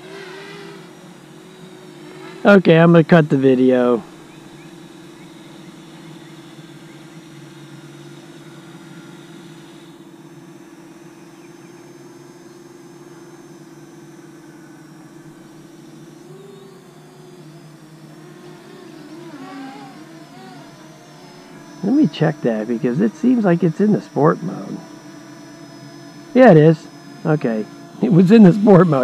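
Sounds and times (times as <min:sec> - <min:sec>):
drone propellers humming: 0:00.0 - 0:29.0.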